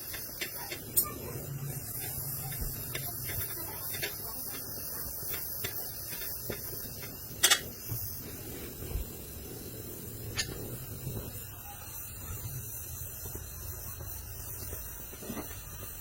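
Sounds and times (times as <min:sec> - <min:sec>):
welding arc hissing and buzzing: 0:00.0 - 0:16.0.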